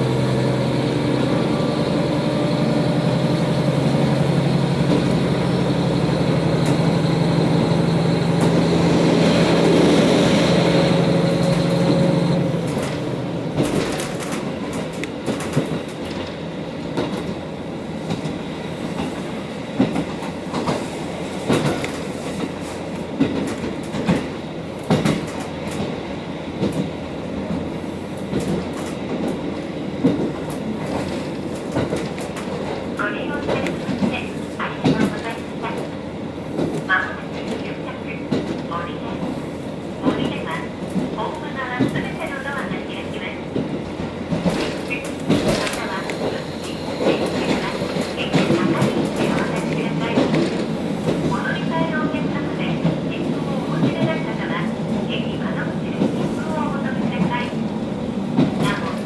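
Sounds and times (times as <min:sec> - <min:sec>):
diesel railcar engine: 0:00.0 - 0:59.0.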